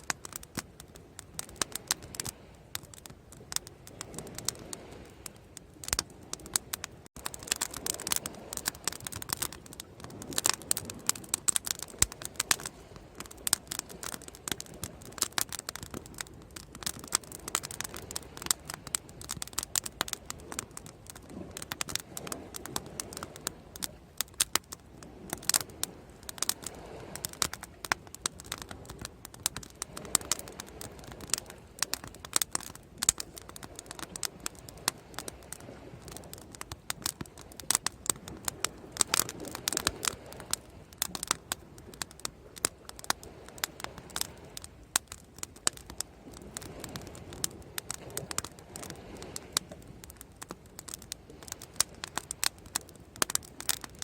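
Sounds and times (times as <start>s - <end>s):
bonfire crackling and popping: 0.0s - 54.0s
soft rushing of fire: 0.0s - 54.0s.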